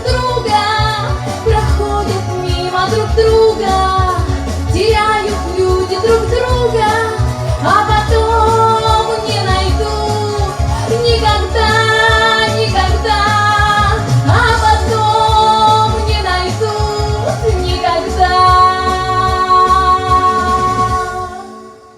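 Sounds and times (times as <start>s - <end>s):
musical accompaniment: 0.0s - 21.9s
woman singing: 0.0s - 21.9s.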